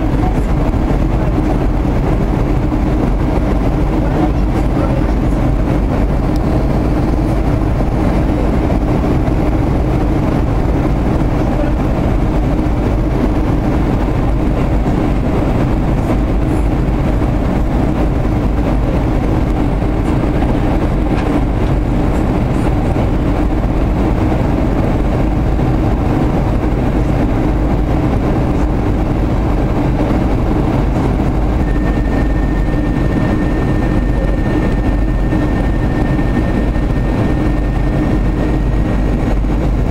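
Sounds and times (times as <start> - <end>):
airflow rush in cabin: 0.0 - 39.9
jet engines humming: 0.0 - 39.9
thin high whine: 0.0 - 39.9.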